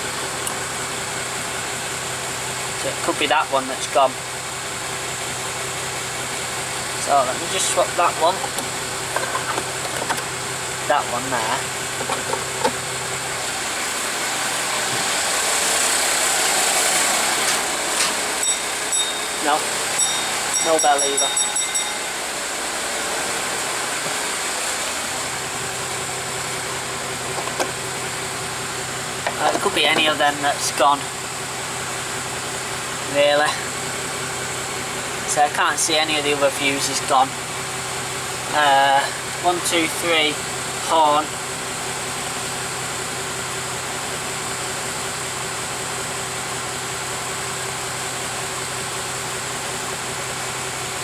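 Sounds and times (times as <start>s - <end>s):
diesel bus engine idling: 0.0s - 51.0s.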